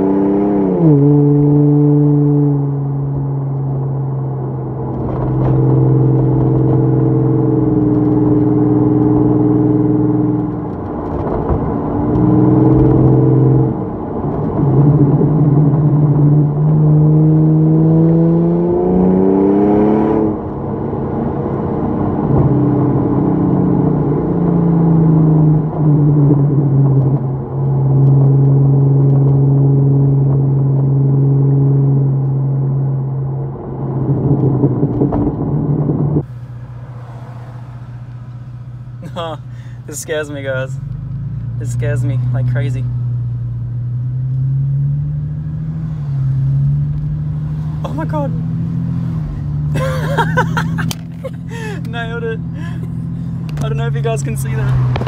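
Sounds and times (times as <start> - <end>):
car engine and exhaust: 0.0 - 55.0.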